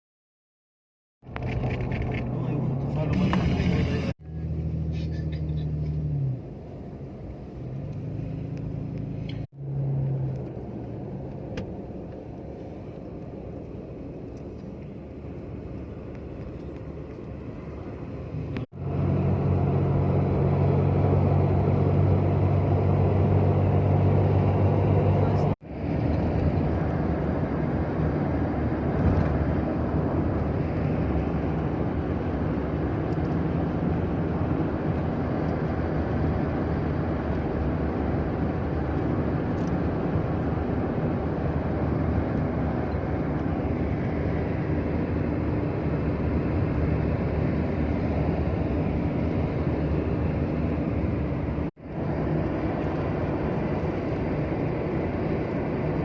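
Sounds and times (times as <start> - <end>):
moving vehicle rumble: 1.2 - 56.0.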